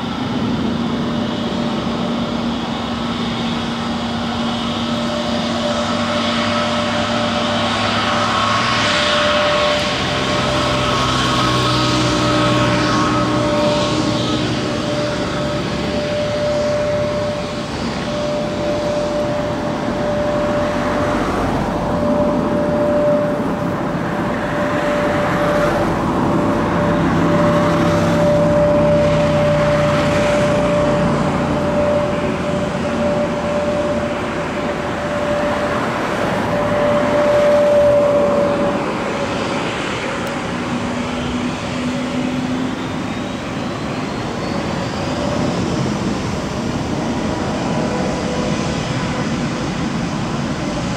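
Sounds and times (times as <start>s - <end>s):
jet engine rumble: 0.0s - 50.9s
jet engine whine: 0.0s - 50.9s.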